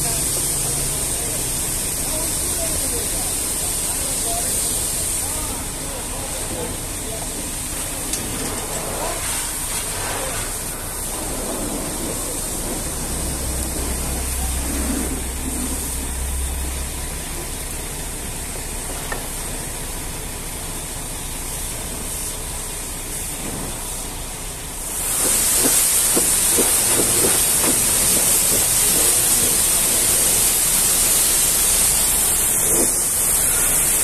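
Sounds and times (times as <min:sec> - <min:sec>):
water spraying: 0:00.0 - 0:34.0.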